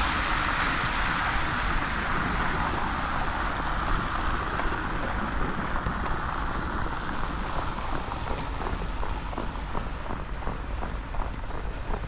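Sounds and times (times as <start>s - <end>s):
street traffic: 0.0s - 12.0s
wind on microphone: 0.0s - 12.0s.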